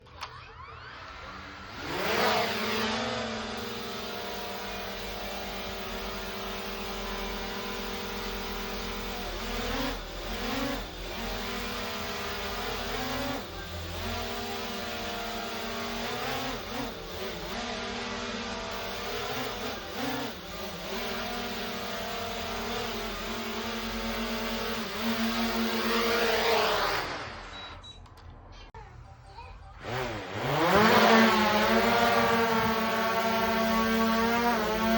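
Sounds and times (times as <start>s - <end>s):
drone propellers buzzing: 1.0s - 27.3s, 29.8s - 34.9s.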